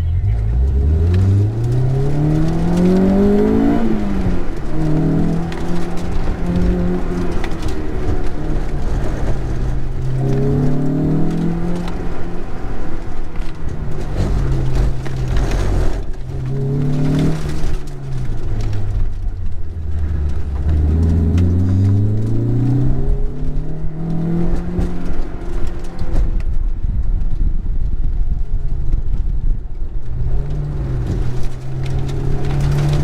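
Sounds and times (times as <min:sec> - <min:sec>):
car engine revving: 0:00.0 - 0:26.5, 0:30.0 - 0:33.0.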